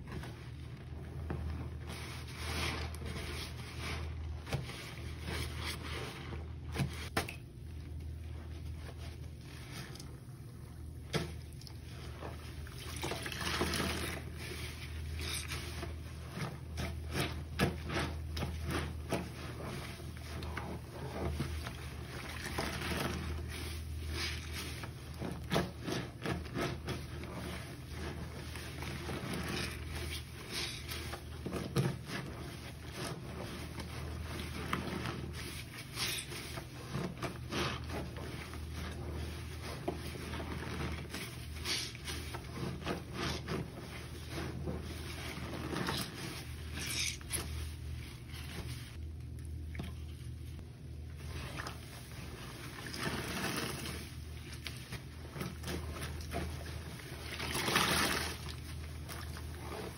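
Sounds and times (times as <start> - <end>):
sponge squelching in soapy water: 0.0 - 59.9.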